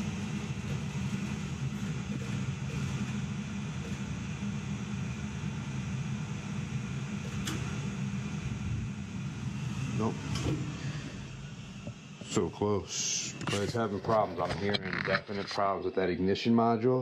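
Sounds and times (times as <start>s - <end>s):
boiler low hum: 0.0s - 16.3s.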